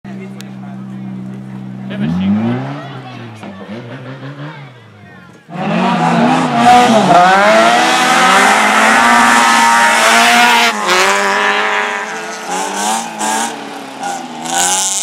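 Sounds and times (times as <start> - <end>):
racing car engine at high revs: 1.5 - 15.0.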